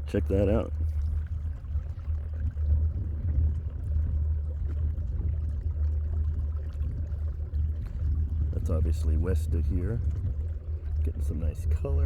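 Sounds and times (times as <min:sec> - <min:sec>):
boat engine low rumble: 0:00.0 - 0:12.0
faint water sounds: 0:00.0 - 0:12.0.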